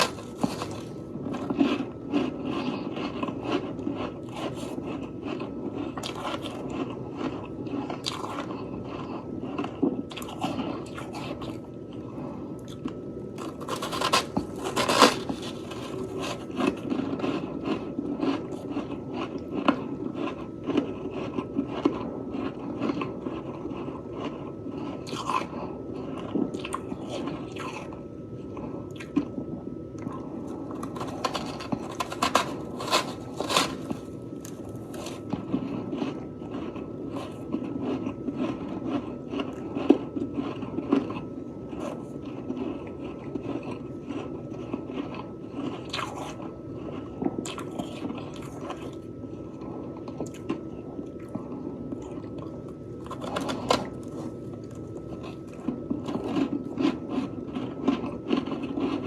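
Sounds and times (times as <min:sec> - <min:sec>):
frost being chewed crunching: 0:00.0 - 0:59.0.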